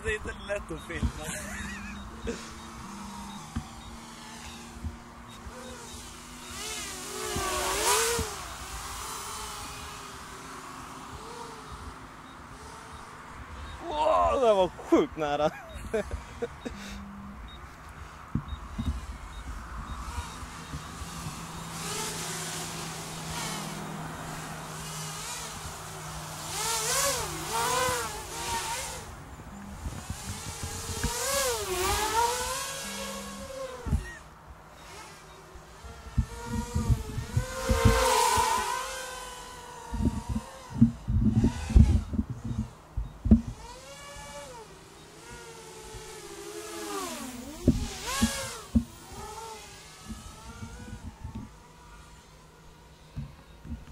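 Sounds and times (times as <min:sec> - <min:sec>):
drone motors and propellers whining: 0:00.0 - 0:53.9.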